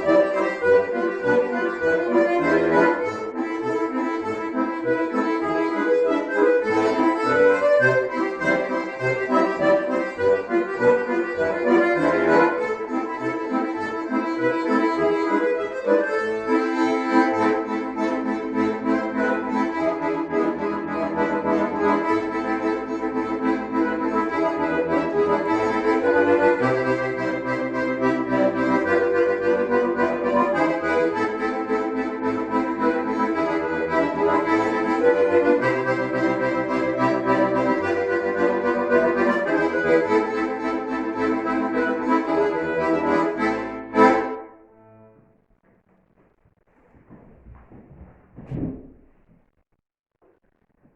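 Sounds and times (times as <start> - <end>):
button accordions playing a folk tune: 0.0 - 45.2.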